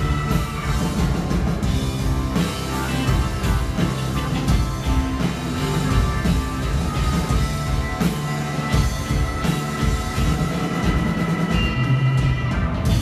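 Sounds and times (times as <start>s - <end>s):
bass guitar: 0.0s - 13.0s
drum kit: 0.0s - 13.0s
electric guitars: 0.0s - 13.0s
keyboard: 0.0s - 13.0s.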